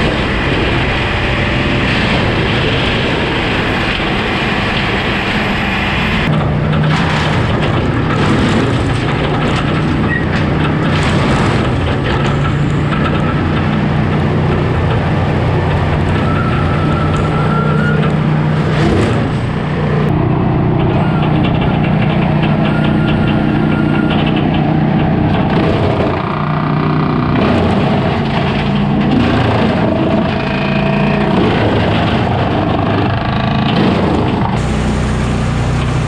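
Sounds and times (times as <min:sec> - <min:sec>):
woodchipper running: 0:00.0 - 0:36.0.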